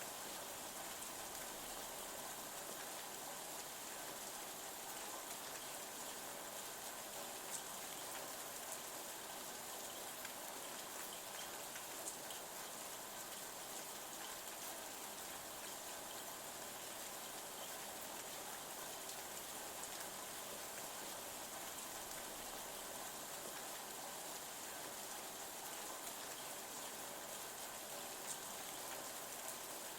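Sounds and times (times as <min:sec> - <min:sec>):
light rain on a window: 0:00.0 - 0:29.9.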